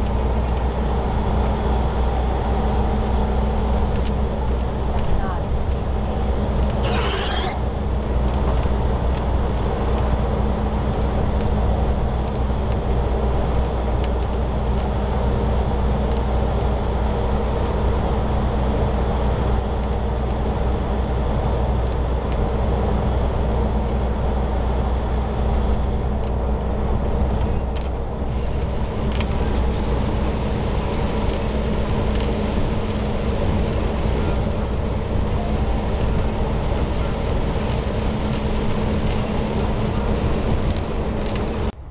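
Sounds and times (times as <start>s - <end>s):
truck engine and road drone: 0.0s - 41.9s.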